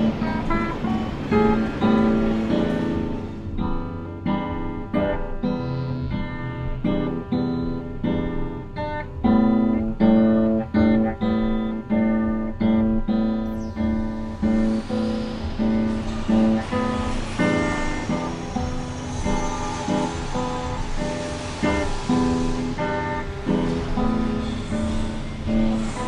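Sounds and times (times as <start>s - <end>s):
guitar strumming chords: 0.0s - 26.0s.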